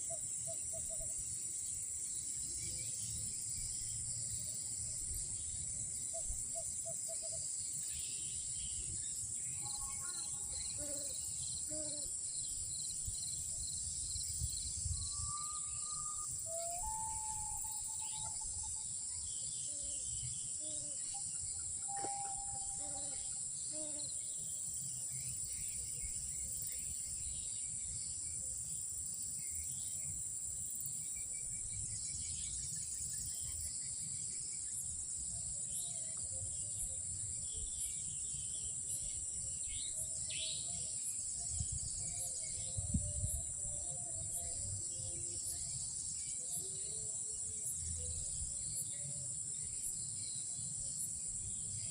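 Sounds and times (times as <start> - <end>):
crickets droning: 0.0 - 51.9.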